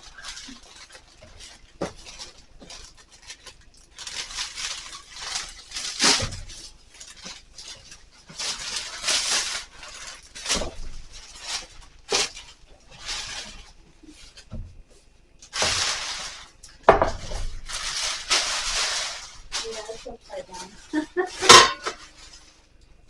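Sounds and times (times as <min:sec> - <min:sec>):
packaging rustling: 0:00.0 - 0:14.6, 0:15.4 - 0:22.8.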